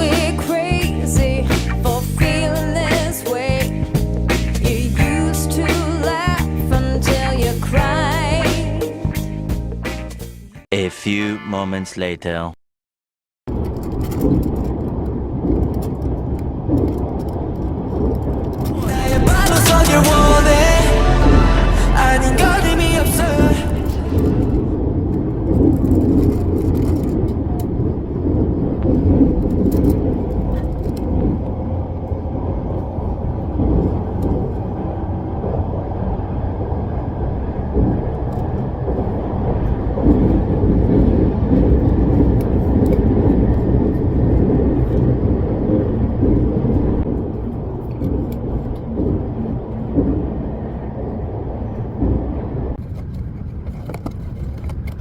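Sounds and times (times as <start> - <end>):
train running rumble: 0.0 - 10.3, 18.2 - 55.0.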